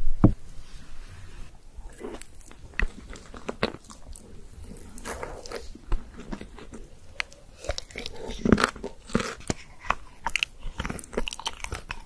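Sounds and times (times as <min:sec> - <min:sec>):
chewing: 0:01.8 - 0:12.0
crunchy bites: 0:01.9 - 0:12.0.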